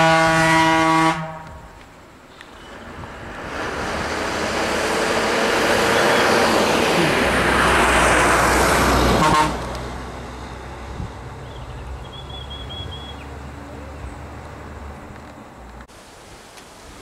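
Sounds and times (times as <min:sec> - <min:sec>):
bus driving past: 0:01.6 - 0:15.9.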